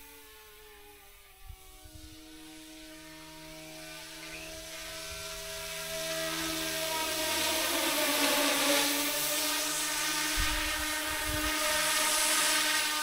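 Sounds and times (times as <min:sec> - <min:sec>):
model helicopter rotor whining: 0:00.0 - 0:13.0.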